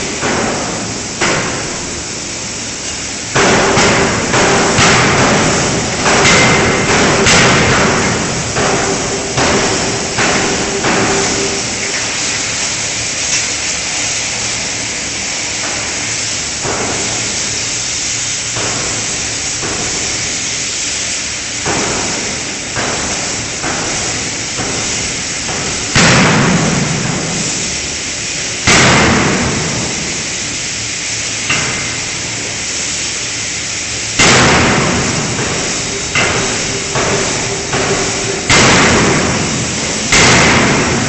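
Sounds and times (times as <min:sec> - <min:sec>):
forge shop noise: 0:00.0 - 0:41.0
steady hum: 0:00.0 - 0:41.0.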